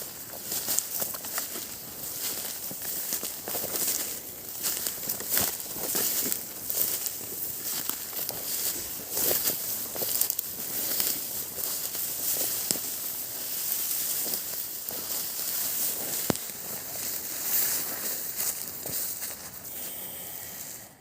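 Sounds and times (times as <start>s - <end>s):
close rustling and crackling: 0.0s - 19.8s.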